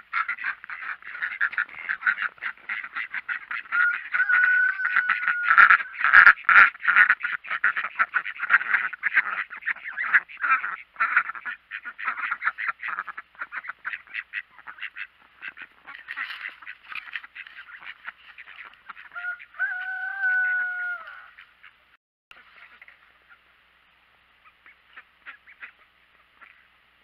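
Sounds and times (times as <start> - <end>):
ducks quacking: 0.0 - 23.6, 24.4 - 26.8.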